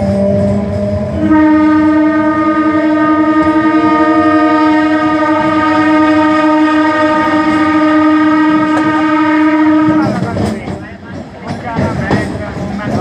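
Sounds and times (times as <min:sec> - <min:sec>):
train horn blast: 0:00.0 - 0:10.6.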